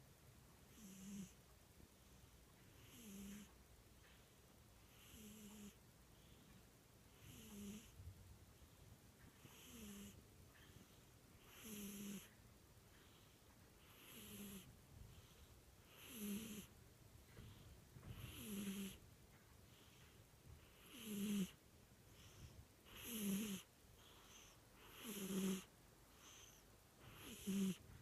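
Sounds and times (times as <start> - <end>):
cat snoring softly: 0.7 - 19.0, 19.7 - 28.0.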